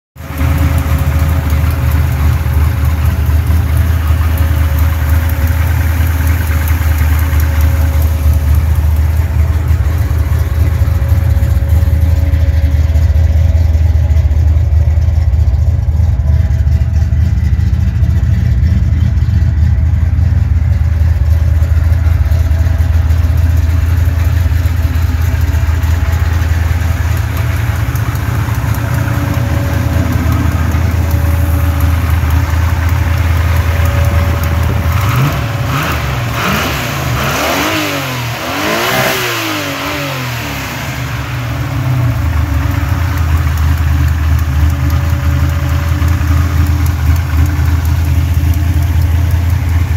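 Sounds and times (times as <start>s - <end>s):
car engine idling: 0.2s - 49.9s.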